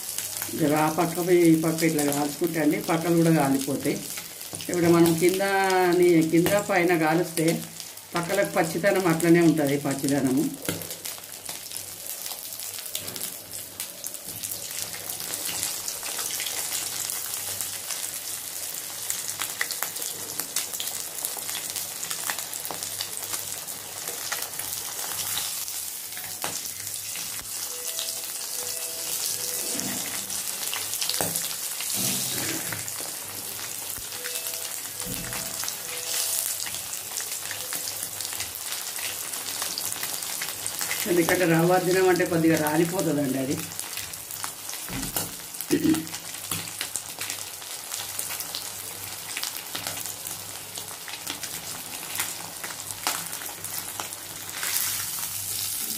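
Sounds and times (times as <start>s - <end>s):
fish sizzling in hot oil: 0.0s - 55.9s.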